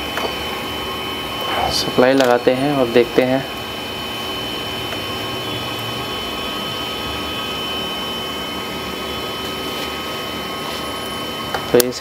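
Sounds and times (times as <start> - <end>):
faint high whines: 0.0 - 12.0
fan rushing: 0.0 - 12.0.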